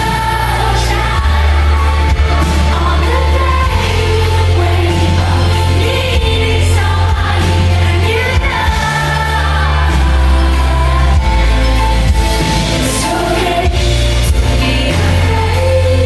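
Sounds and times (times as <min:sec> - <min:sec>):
live pop band: 0:00.0 - 0:16.0
loud deep bass: 0:00.0 - 0:16.0
woman singing: 0:00.0 - 0:16.0.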